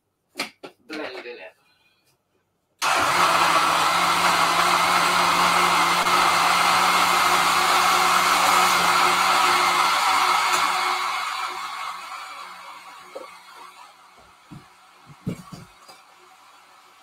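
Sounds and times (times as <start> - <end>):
blender running at high speed: 2.8 - 17.0.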